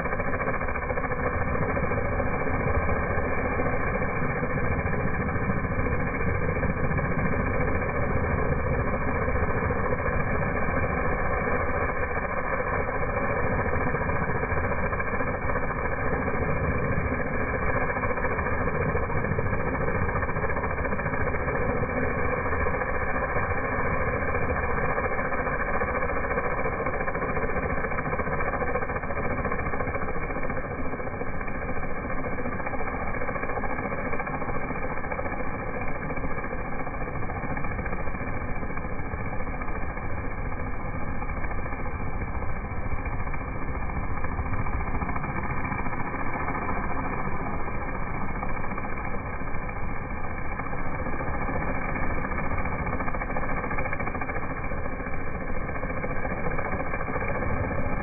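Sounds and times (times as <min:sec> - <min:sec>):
pressure washer engine running: 0:00.0 - 0:58.0
water jet spraying on asphalt: 0:00.0 - 0:58.0.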